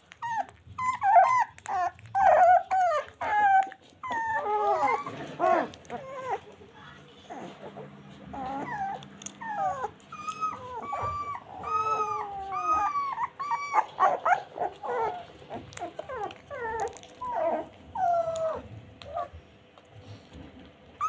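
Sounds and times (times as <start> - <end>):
puppies whimpering and whining: 0.0 - 21.0.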